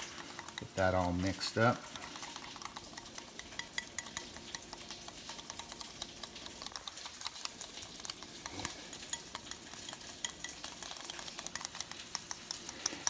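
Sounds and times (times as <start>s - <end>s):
whisk clicking against glass bowl: 0.0s - 13.0s.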